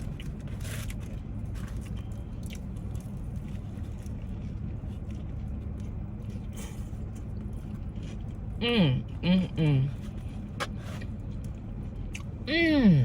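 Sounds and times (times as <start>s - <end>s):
chewing and biting sandwich: 0.0s - 9.2s, 9.9s - 12.5s
low steady hum: 0.0s - 13.0s.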